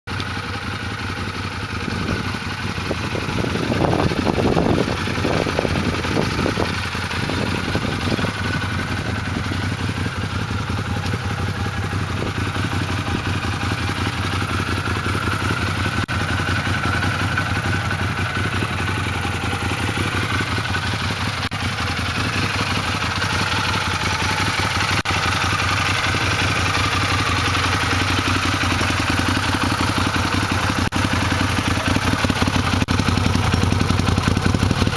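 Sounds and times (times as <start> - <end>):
engine idling: 0.1 - 34.9.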